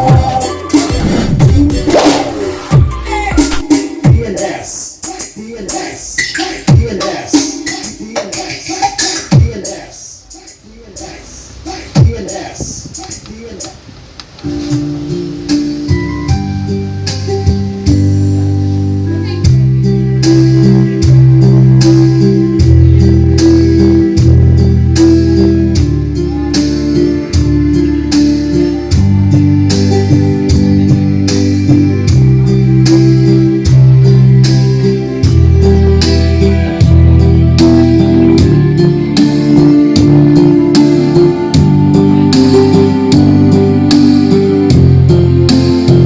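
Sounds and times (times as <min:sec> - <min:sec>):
bass-heavy dance music: 0:00.0 - 0:13.8, 0:14.7 - 0:46.0.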